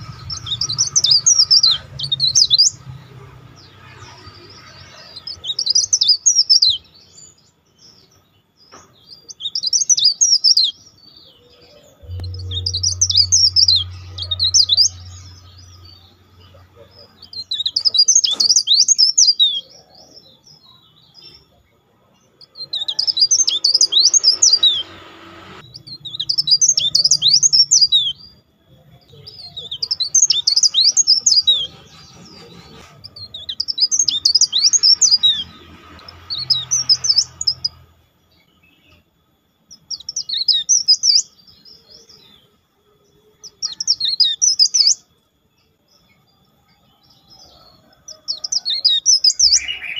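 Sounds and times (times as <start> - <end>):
songbird chirping: 0.0 - 49.9.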